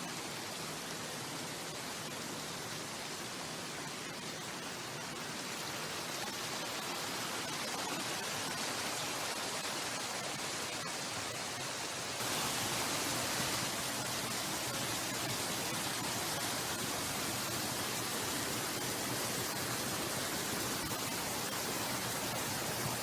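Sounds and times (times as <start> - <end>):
stream water rushing: 0.1 - 23.0.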